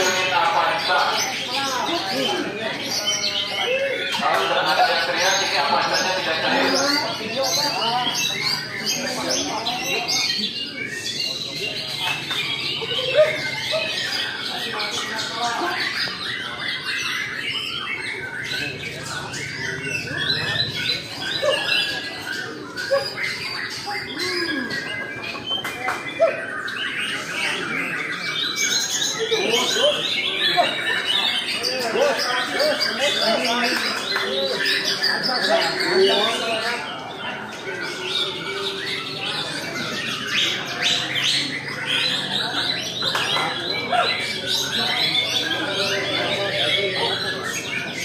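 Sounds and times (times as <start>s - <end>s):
birds singing whistled phrases: 0.0s - 48.0s.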